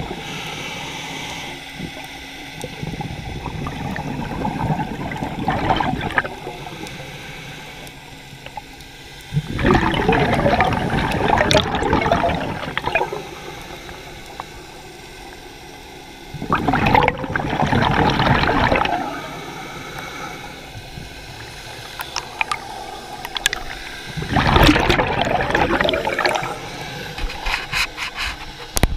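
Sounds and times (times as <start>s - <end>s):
diver exhaling bubbles underwater: 1.6s - 8.7s, 9.3s - 14.8s, 16.3s - 27.5s.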